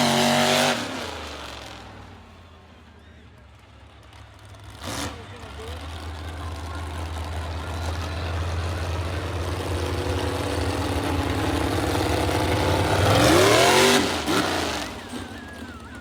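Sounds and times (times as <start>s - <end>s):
vehicle engine revving: 0.0s - 2.0s, 4.6s - 16.0s.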